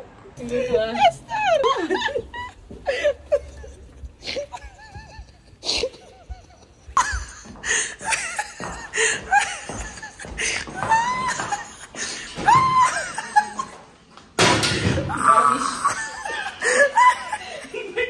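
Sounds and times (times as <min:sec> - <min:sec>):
person laughing: 0:01.6 - 0:13.8, 0:15.2 - 0:18.0.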